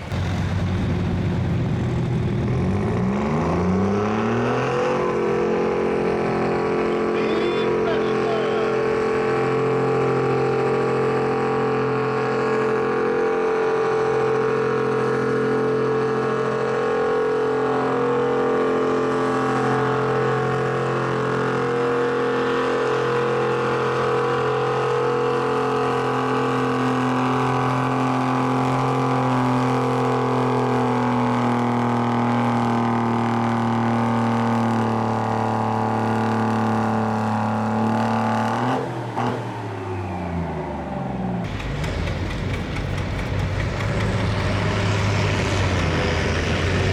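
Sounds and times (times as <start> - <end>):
tractor diesel engine running: 0.0 - 37.7, 40.4 - 46.9.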